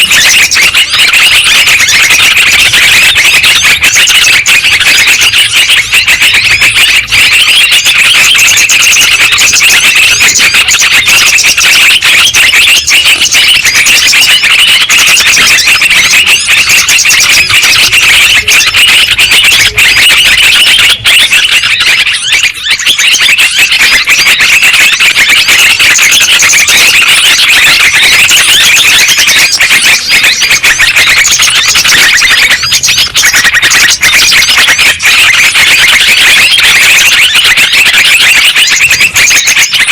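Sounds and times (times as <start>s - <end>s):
chorus of bird chirps: 0.0s - 39.9s.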